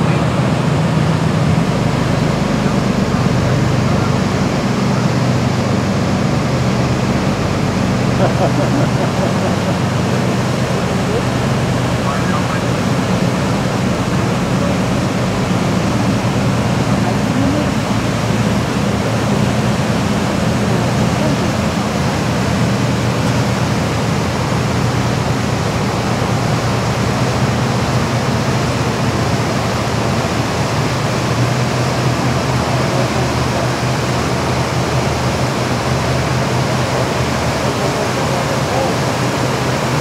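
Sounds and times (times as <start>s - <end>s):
boat engine hum: 0.0s - 40.0s
rush of falling water: 0.0s - 40.0s.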